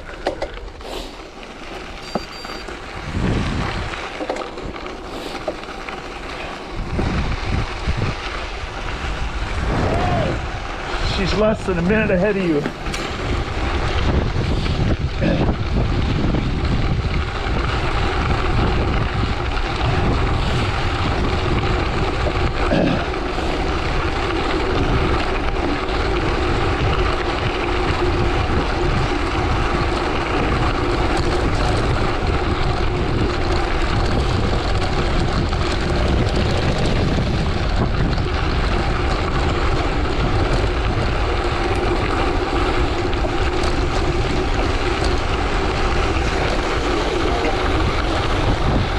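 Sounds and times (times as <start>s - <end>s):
tyres rolling on gravel: 0.0s - 48.9s
wind rushing over microphone: 2.2s - 48.9s.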